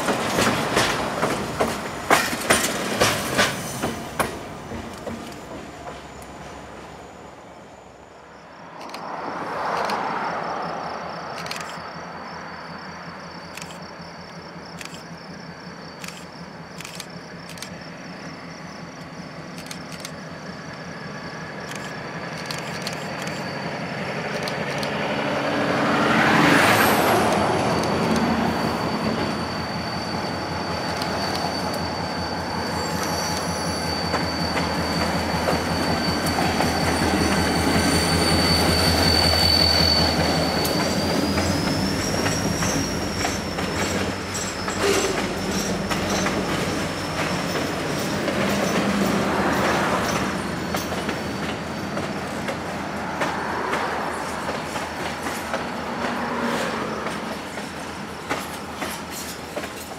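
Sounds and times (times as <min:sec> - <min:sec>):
diesel locomotive engine rumble: 0:00.0 - 0:59.9
high wheel squeal: 0:11.3 - 0:59.9.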